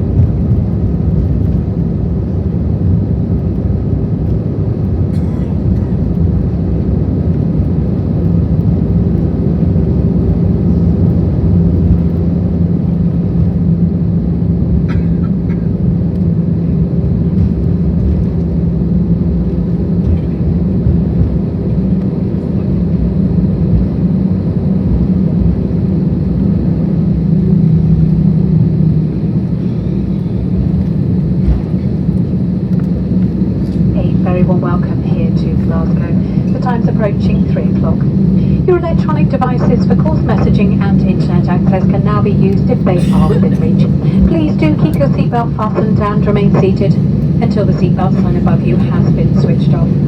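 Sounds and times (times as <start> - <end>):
aircraft engines humming in cabin: 0.0 - 50.0.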